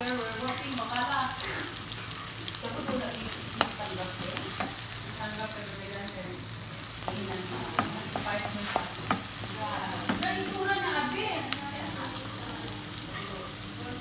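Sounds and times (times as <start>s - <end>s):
onion and garlic sizzling in oil: 0.0s - 14.0s.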